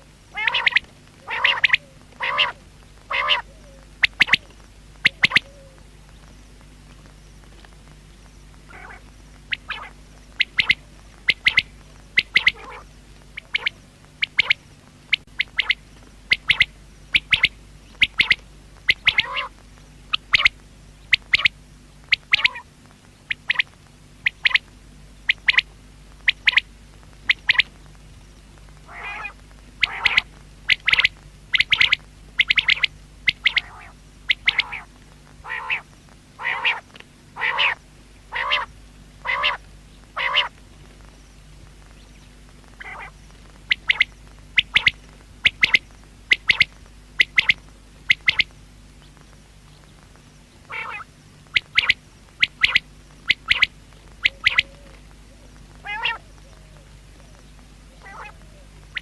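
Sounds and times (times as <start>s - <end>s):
quail lower longer calls: 0.0s - 6.3s, 8.6s - 27.8s, 28.7s - 41.1s, 42.6s - 59.0s
quail short sharp calls: 0.3s - 5.8s, 8.7s - 22.7s, 23.3s - 26.7s, 27.3s - 27.7s, 28.8s - 40.6s, 42.7s - 48.5s, 50.6s - 59.0s.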